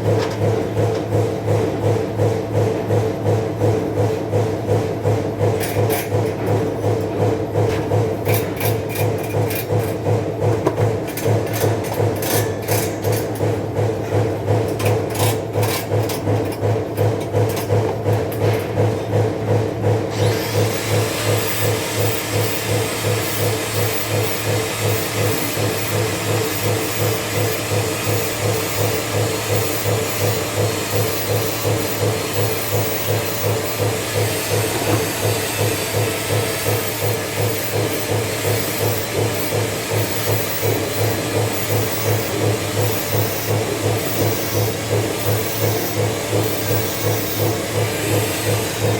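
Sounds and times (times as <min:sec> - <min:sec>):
workshop machine humming: 0:00.0 - 0:48.9.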